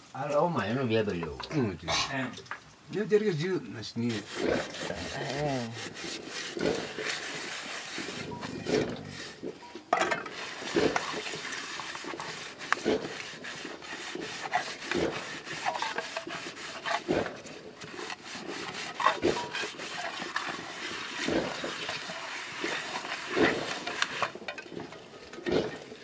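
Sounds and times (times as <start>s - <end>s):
hand scraping metal bowl: 3.8s - 26.0s.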